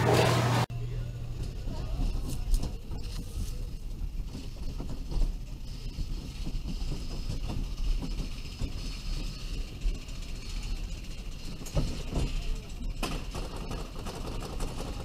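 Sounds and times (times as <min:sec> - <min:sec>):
coaster car rumbling on track: 0:00.0 - 0:15.0.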